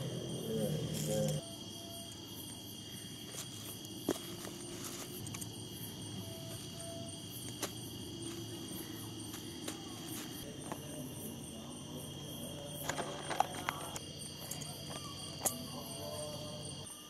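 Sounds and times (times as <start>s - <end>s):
crickets and night insects chirping: 0.0s - 17.0s.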